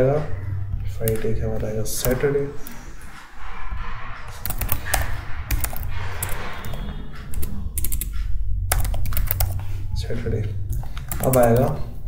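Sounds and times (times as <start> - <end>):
keyboard typing: 0.8 - 3.2, 4.3 - 12.0.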